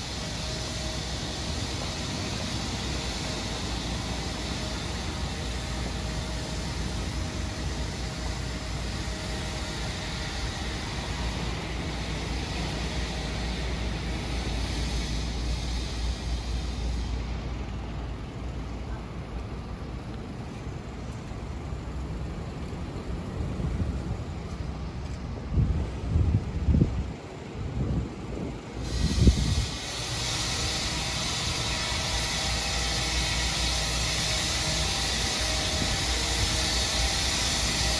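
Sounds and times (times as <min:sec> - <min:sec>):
city street noise: 0:00.0 - 0:37.9.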